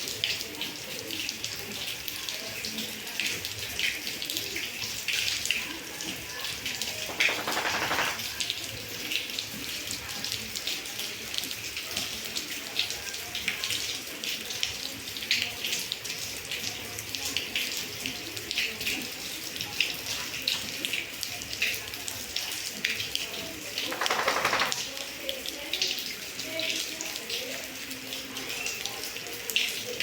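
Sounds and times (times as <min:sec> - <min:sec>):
steady rain falling: 0:00.0 - 0:30.0
water drips and splashes: 0:00.0 - 0:30.0.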